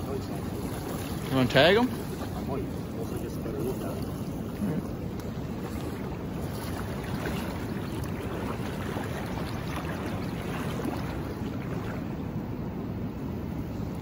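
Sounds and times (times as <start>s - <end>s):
distant waterfall: 0.0s - 14.0s
river water rushing: 0.0s - 14.0s.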